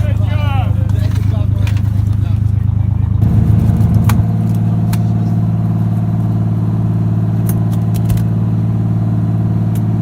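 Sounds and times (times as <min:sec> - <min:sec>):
engine running low hum: 0:00.0 - 0:10.0.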